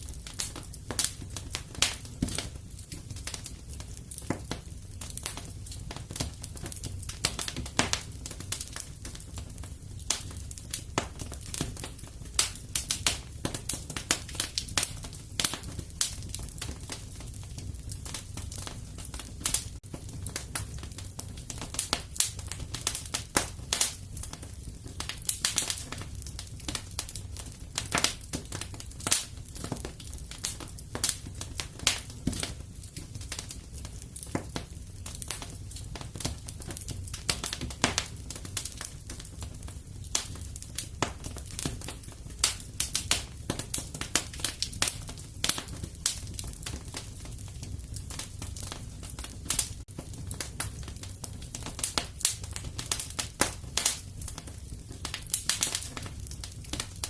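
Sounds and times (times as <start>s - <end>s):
low rumble of flame: 0.0s - 57.0s
wood fire crackling and popping: 0.0s - 57.0s.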